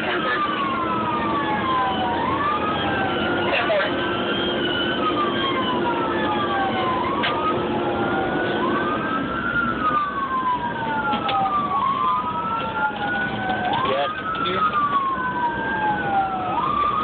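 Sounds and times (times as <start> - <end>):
fire engine siren wailing: 0.0 - 17.0
truck engine and road noise: 0.0 - 17.0.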